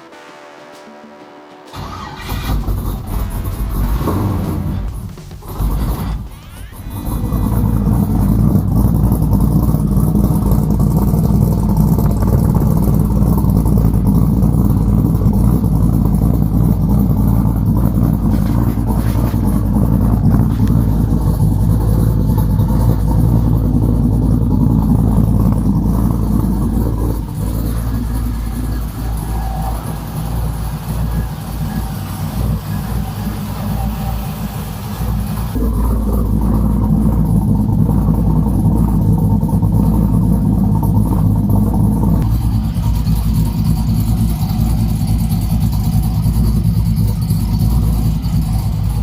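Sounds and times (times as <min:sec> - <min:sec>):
vee eight engine running: 0:00.0 - 0:49.0.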